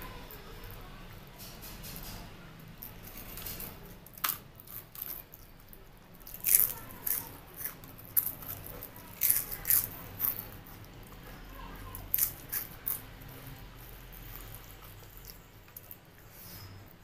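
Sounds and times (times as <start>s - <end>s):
chewing crunchy chips: 0.2s - 16.8s.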